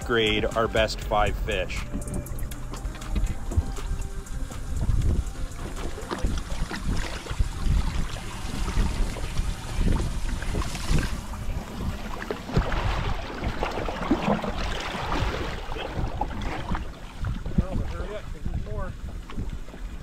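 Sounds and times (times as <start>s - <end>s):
water lapping against boat hull: 0.0s - 20.0s
wind on microphone: 0.0s - 20.0s.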